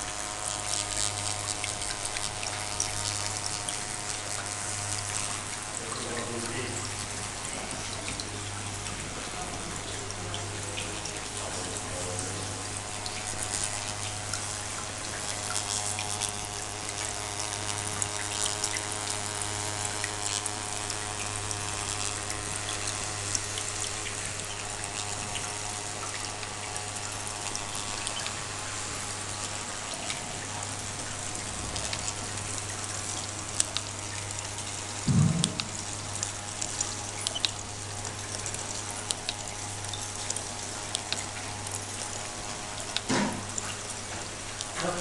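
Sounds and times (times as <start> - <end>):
fountain water trickling: 0.0 - 45.0
steady low hum: 0.0 - 45.0.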